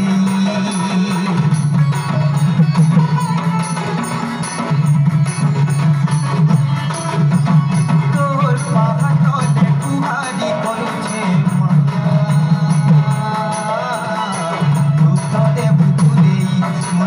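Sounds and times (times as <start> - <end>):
barrel drums fast rhythm: 0.0 - 17.0.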